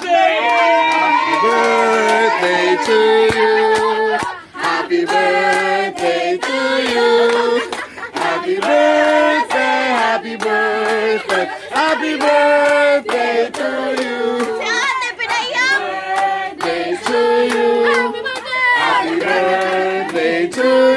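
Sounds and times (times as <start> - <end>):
people singing: 0.0 - 20.9
rhythmic hand clapping: 0.0 - 20.9.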